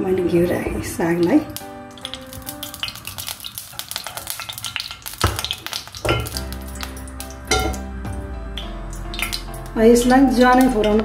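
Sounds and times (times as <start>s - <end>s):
hot fat sizzling and crackling: 0.5s - 11.0s.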